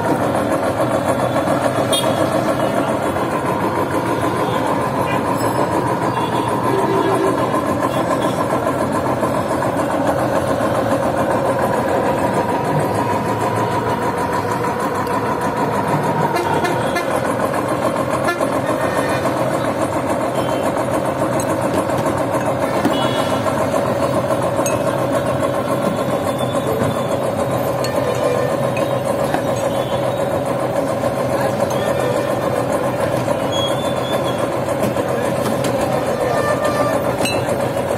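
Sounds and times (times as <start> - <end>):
roller press running: 0.0 - 37.9.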